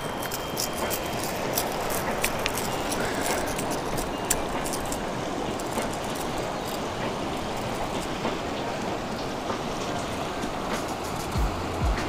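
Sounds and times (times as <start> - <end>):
rushing mountain river: 0.0 - 12.0.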